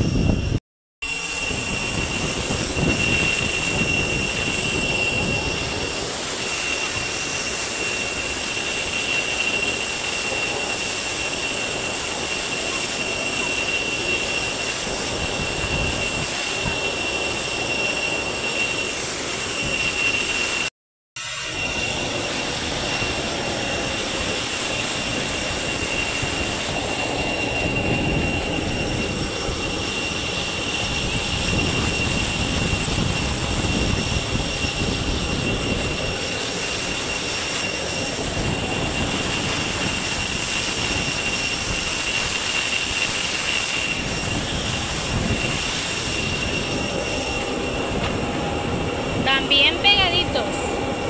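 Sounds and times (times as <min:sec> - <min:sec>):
airliner turbine rushing and whining: 0:00.0 - 0:51.0.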